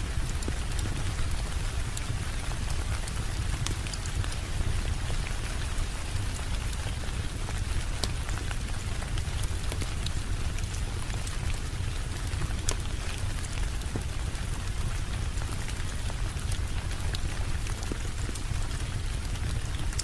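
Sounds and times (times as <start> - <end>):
raindrops ticking: 0.0 - 20.0.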